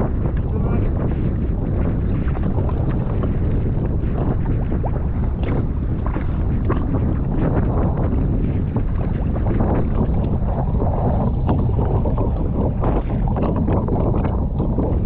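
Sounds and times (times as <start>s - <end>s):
water splashing: 0.0s - 15.0s
wind buffeting microphone: 0.0s - 15.0s.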